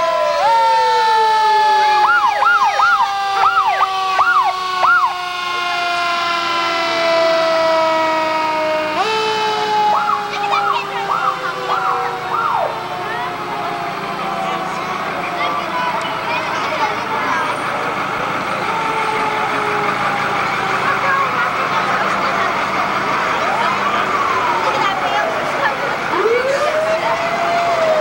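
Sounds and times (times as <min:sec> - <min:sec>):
siren whoops: 0:00.0 - 0:16.9, 0:18.4 - 0:22.4, 0:23.4 - 0:28.0
steady falling siren tone: 0:00.0 - 0:28.0.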